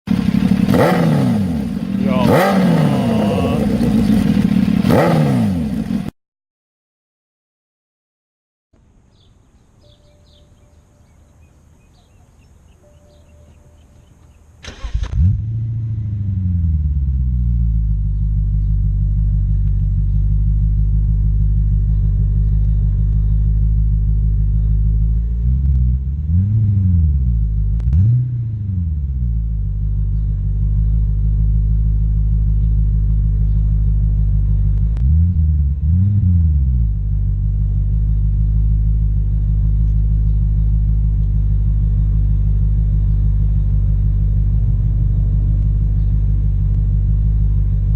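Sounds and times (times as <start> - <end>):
car engine starting and idling: 0.1 - 6.1, 9.9 - 47.9
engine revs blipped: 0.1 - 6.1, 12.8 - 47.9.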